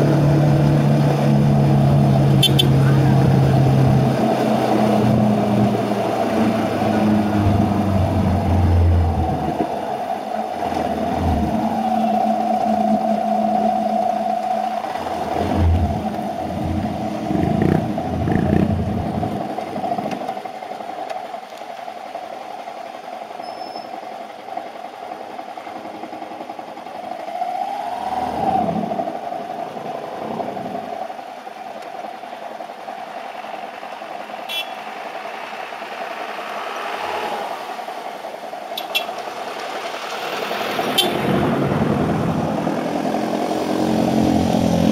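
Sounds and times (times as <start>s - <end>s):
motorcycle approaching: 0.0s - 20.6s, 24.1s - 44.9s.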